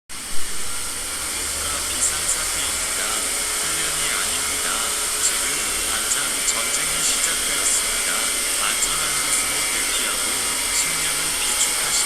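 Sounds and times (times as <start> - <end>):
loud hissing noise: 0.1 - 12.0.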